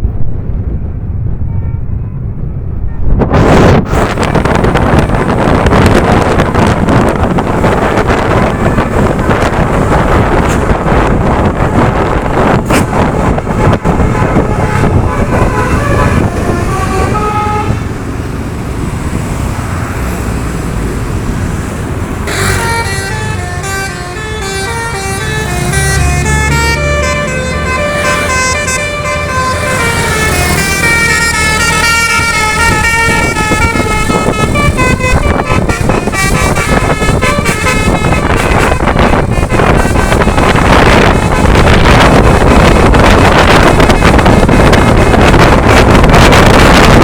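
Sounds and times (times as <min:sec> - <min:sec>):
vehicle and road noise: 0:00.0 - 0:47.0
bus multi-tone horn melody: 0:03.4 - 0:18.0, 0:22.2 - 0:47.0.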